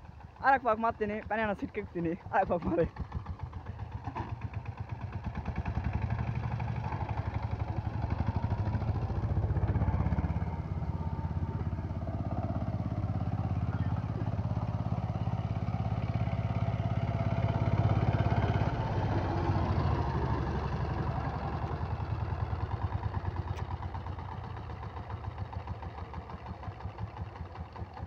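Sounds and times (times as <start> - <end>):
diesel engine running and idling: 0.0 - 28.0.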